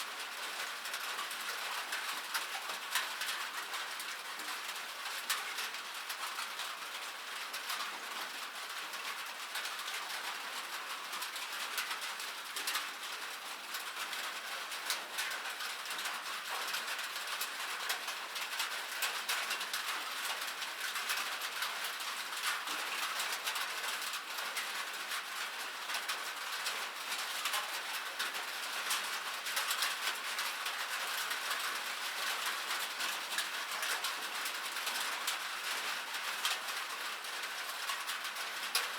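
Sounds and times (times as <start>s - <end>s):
rain pattering on metal: 0.0s - 38.9s.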